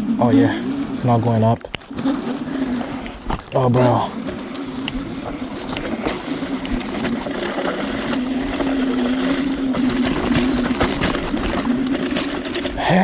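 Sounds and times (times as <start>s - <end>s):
electric scooter motors whining: 0.0s - 13.0s
tyres crunching and rattling: 0.0s - 13.0s.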